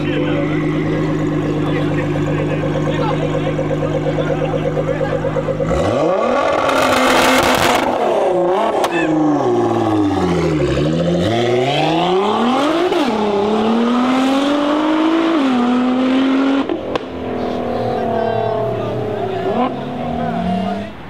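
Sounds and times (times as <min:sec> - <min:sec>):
car engine revving and accelerating: 0:00.0 - 0:21.0.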